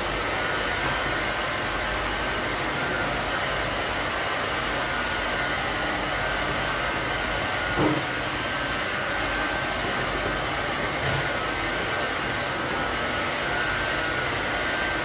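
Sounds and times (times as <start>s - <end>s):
electric blower rushing air: 0.0s - 15.0s.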